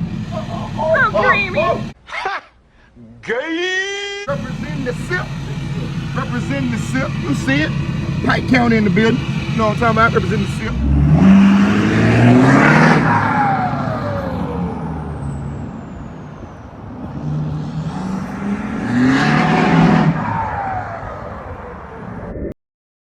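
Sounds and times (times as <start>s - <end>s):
vehicles driving past: 0.0s - 2.0s, 4.3s - 22.5s.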